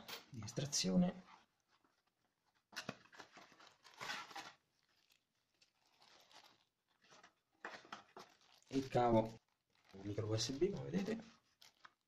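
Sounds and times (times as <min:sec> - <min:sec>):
plastic bag rustling: 0:01.2 - 0:12.0.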